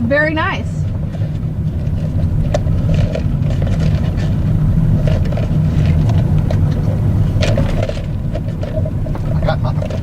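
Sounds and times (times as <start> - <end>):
car driving: 0.0 - 10.0.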